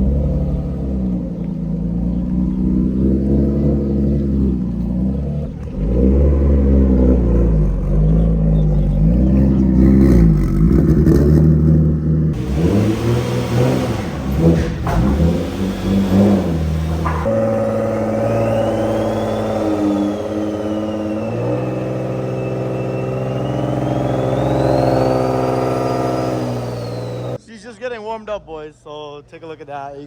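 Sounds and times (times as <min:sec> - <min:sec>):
car engine revving: 0:00.0 - 0:27.4.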